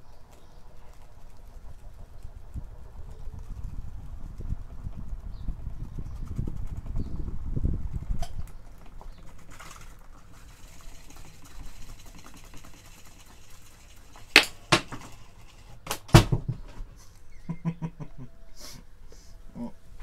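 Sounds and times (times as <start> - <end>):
fan blade clacking: 0.0 - 17.0
fan motor hum: 0.0 - 20.0.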